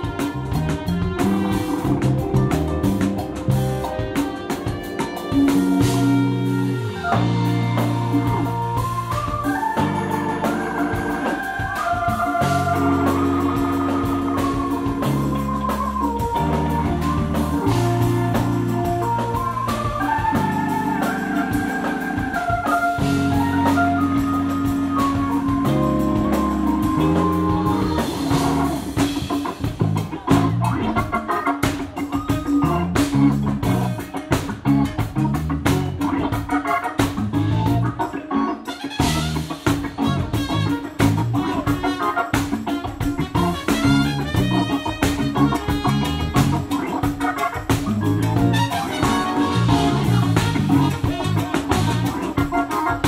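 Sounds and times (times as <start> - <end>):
tenor saxophone: 0.0 - 29.3, 38.7 - 53.0
trumpets: 0.0 - 29.3, 38.7 - 53.0
drums: 0.0 - 53.0
electric bass: 0.0 - 53.0
organ-toned keyboard: 0.0 - 53.0.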